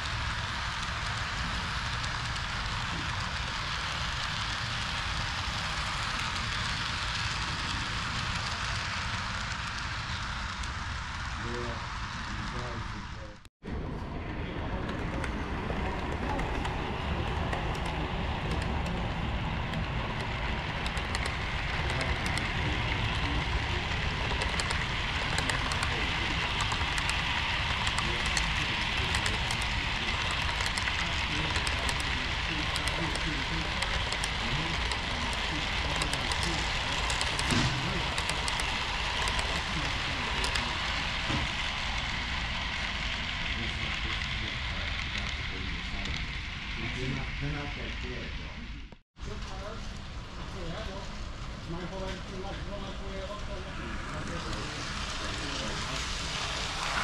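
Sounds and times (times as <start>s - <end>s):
model train rumbling on track: 0.0s - 57.0s.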